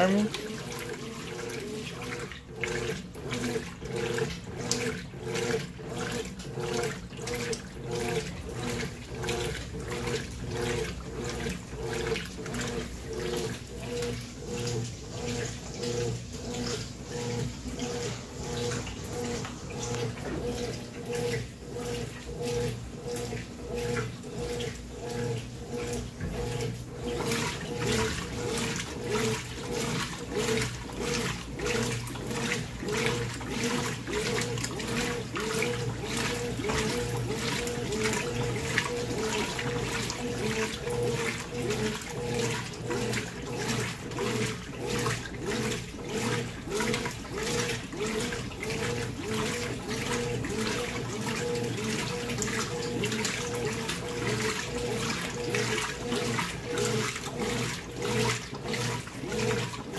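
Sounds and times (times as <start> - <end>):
agitator motor hum: 0.0 - 59.9
washing machine sloshing water: 0.0 - 59.9.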